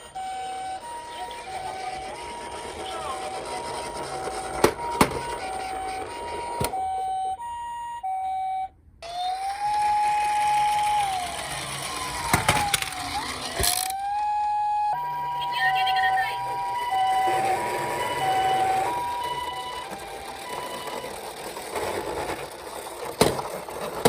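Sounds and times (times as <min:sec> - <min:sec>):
two-note electronic siren: 0:00.0 - 0:21.6
wailing siren: 0:00.0 - 0:22.3.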